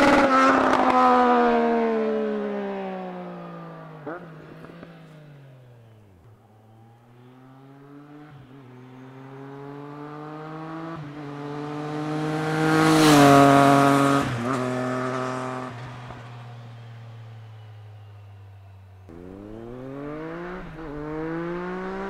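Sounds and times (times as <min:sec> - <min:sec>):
motorcycle accelerating past: 0:00.0 - 0:05.5, 0:07.2 - 0:16.8, 0:19.1 - 0:22.0.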